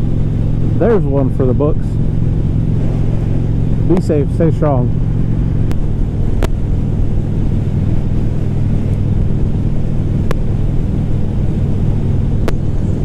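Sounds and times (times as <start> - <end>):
motorcycle engine running: 0.0 - 13.0
wind noise: 1.8 - 13.0.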